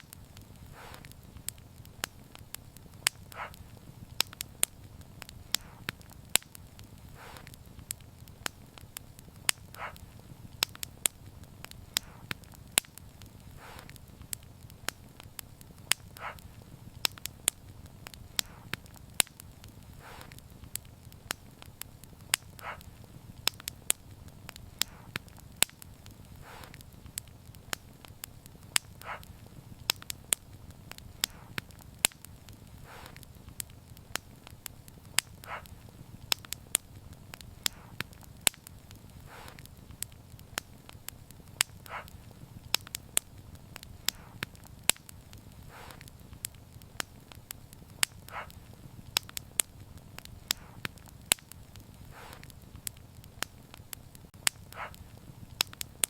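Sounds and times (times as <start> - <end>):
soft hiss: 0.0 - 56.0
wood fire crackling: 0.0 - 56.0.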